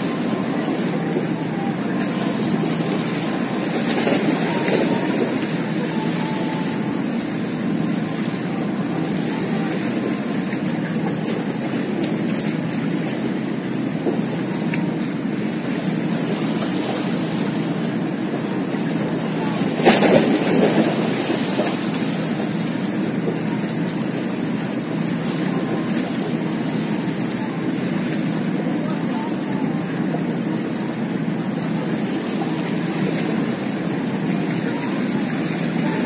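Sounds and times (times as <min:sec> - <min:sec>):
sea water washing against rocks: 0:00.0 - 0:36.0
wind: 0:00.0 - 0:36.0.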